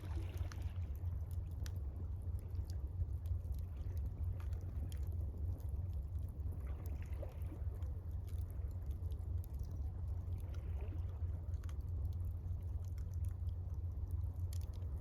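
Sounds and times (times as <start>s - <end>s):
faint campfire crackles: 0.0s - 15.0s
steady low rumble: 0.0s - 15.0s
water lapping at shore: 0.0s - 15.0s.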